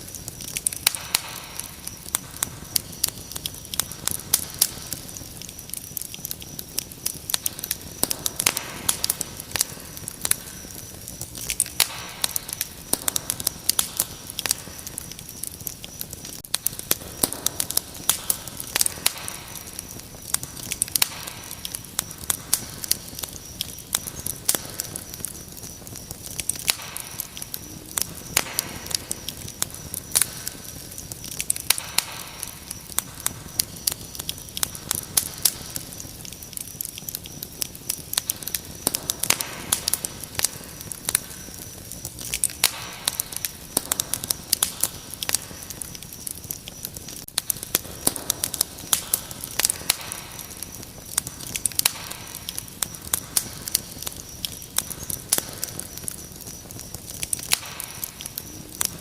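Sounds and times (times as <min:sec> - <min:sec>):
crickets chirring: 0:00.0 - 0:59.0
wood fire crackling and popping: 0:00.0 - 0:59.0.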